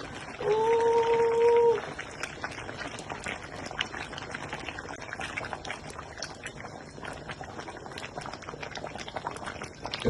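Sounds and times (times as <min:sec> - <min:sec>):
pot bubbling at the boil: 0:00.0 - 0:10.0.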